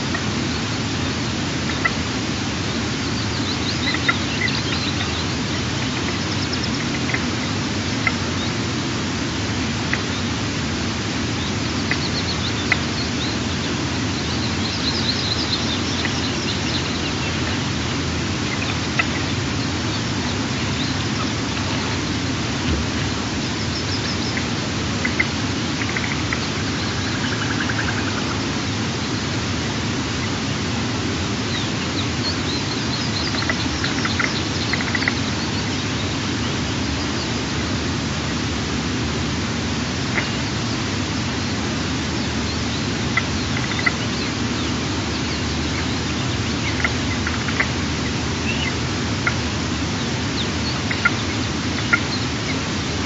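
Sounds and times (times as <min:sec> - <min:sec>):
small birds chirping: 0:00.0 - 0:38.5, 0:40.0 - 0:53.0.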